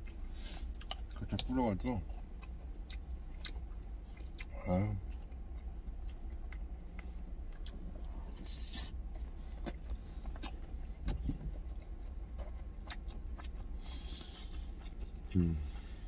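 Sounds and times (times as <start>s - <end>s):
low rumble inside truck cab: 0.0s - 16.0s
man chewing food: 0.0s - 16.0s.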